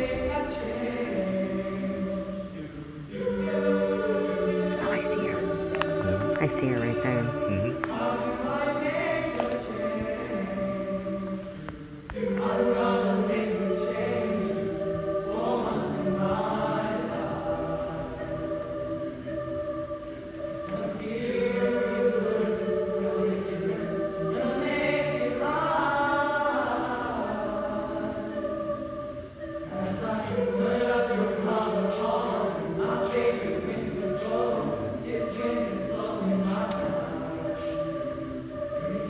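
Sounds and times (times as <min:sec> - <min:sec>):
children's choir singing: 0:00.0 - 0:39.0.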